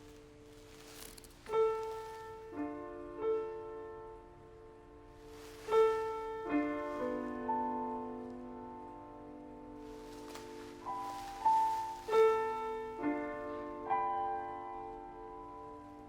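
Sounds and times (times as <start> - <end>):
rustling noise: 0.0 - 3.0, 5.0 - 16.0
slow piano playing: 0.0 - 16.0.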